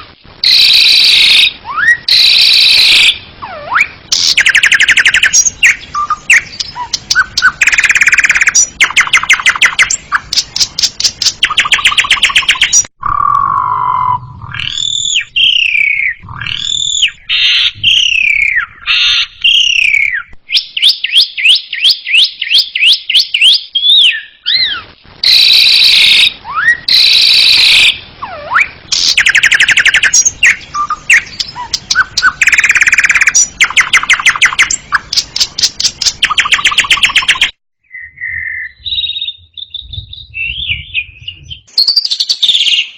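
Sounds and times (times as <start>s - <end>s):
starling singing: 0.4s - 42.9s.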